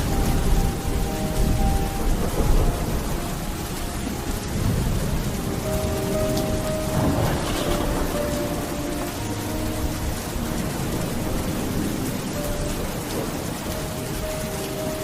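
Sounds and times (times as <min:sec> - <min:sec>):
heavy rain: 0:00.0 - 0:15.0
low rumbling thunder: 0:00.0 - 0:15.0.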